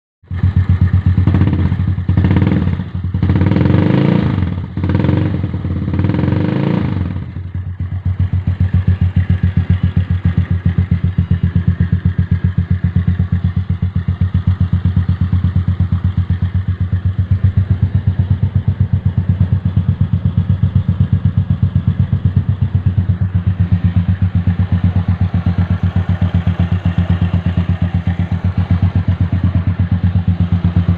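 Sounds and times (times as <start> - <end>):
scooter engine revving and idling: 0.2 - 30.9.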